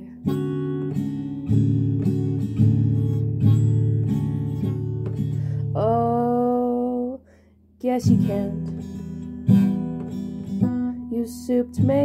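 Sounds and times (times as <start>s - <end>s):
acoustic guitar strumming chords: 0.0s - 6.4s, 7.9s - 12.0s.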